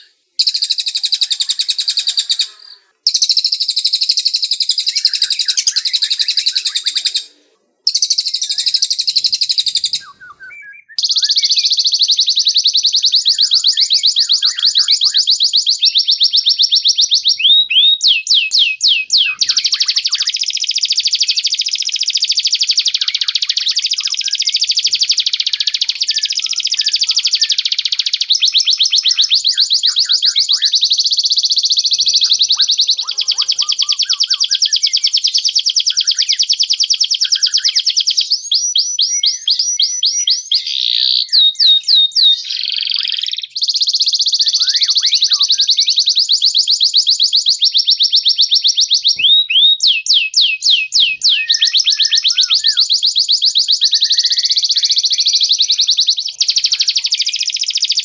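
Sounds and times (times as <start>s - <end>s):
songbird trilling: 0.0s - 7.3s, 7.9s - 58.0s.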